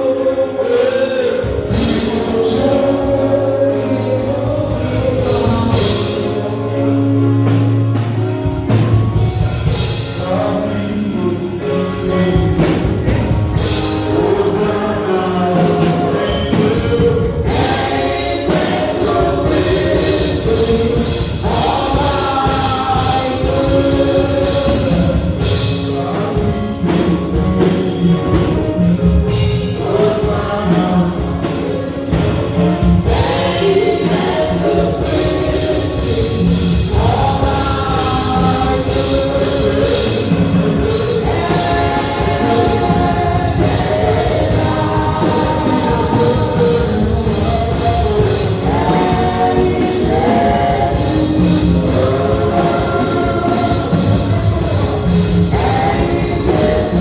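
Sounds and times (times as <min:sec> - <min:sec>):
choir singing gospel music: 0:00.0 - 0:57.0.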